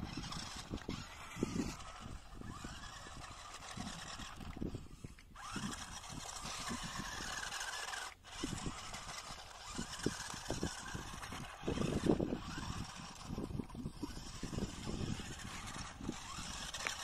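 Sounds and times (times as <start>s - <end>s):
toy car electric motor whining: 0.0s - 17.0s.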